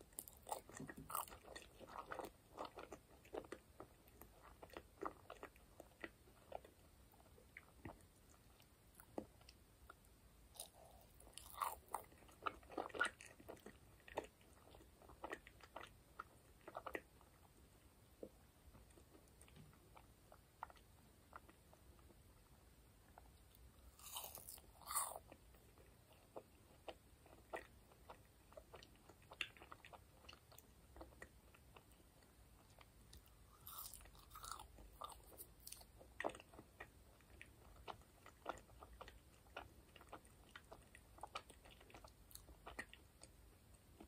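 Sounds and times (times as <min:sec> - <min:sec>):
quiet chewing: 0:00.0 - 0:22.5, 0:23.1 - 0:44.0.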